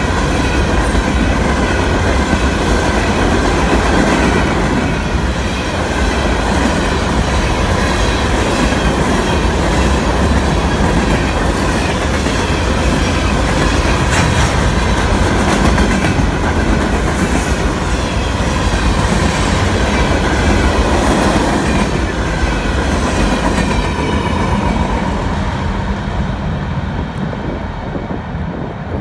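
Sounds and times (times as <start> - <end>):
freight train wheels clacking: 0.0 - 25.6.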